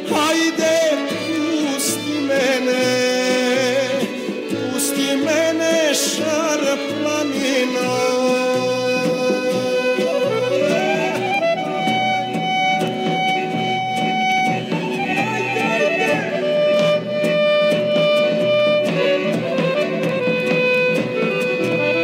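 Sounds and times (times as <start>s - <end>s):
rhythmic string accompaniment: 0.0s - 22.0s
violin melody with slides: 0.0s - 22.0s.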